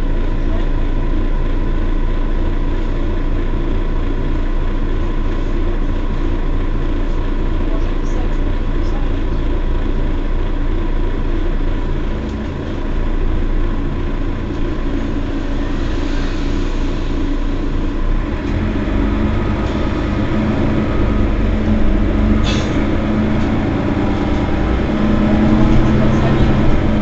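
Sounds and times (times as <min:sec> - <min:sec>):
bus engine low rumble: 0:00.0 - 0:27.0.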